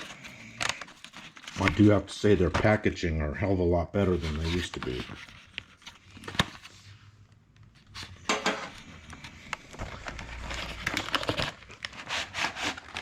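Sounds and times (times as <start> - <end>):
packaging crinkling and rustling: 0.0 - 2.8, 4.0 - 13.0.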